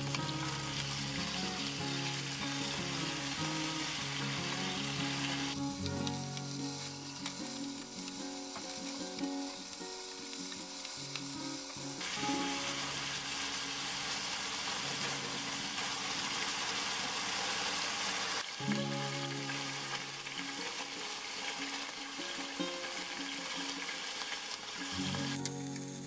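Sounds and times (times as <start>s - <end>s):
meat sizzling in a wok: 0.0s - 26.0s.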